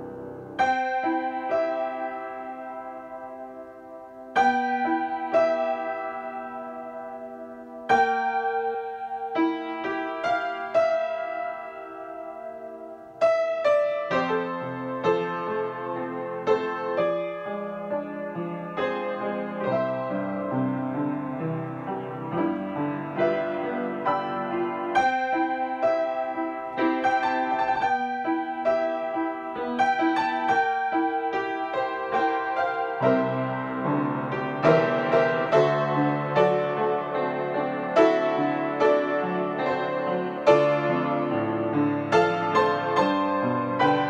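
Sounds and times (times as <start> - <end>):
solo grand piano: 0.0 - 44.0.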